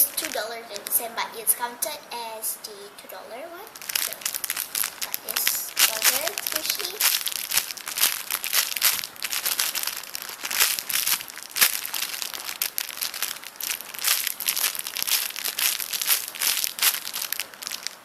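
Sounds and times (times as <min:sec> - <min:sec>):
plastic crinkling: 0:00.0 - 0:02.0, 0:03.4 - 0:18.0.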